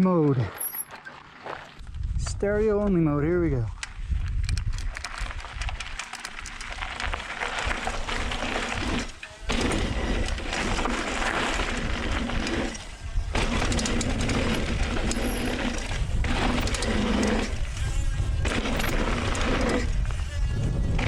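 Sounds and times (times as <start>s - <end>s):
tyres on dirt: 0.0s - 2.3s, 4.7s - 21.0s
muffled wind rush: 1.8s - 21.0s
bike rattling: 3.9s - 21.0s.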